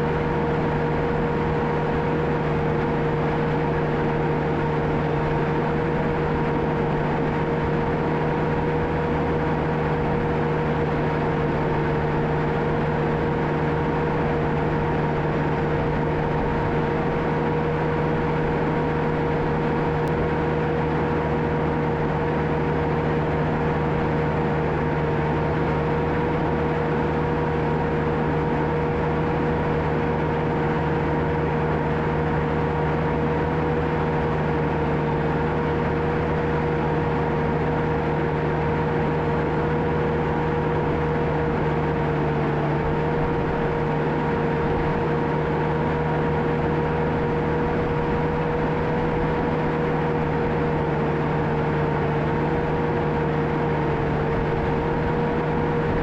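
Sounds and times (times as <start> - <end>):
constant whine: 0.0 - 56.0
diesel engine running: 0.0 - 56.0.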